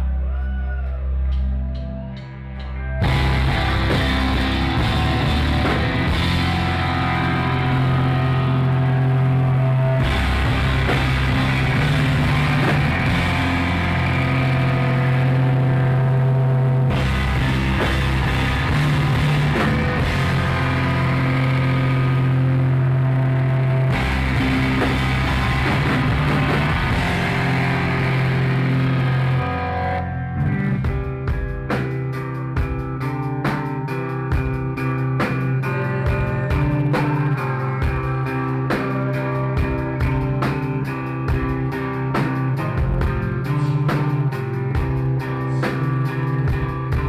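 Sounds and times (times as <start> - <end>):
drum kit: 0.0 - 47.0
electric guitar: 0.0 - 47.0.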